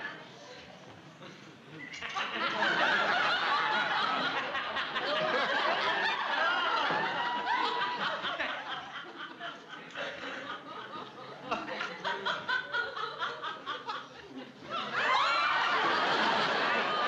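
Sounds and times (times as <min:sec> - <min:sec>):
audience laughing: 0:01.8 - 0:17.0.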